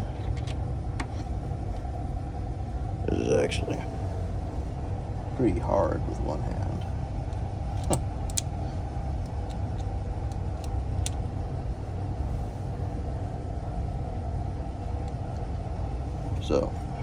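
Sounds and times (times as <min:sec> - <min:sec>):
low machinery rumble: 0:00.0 - 0:17.0.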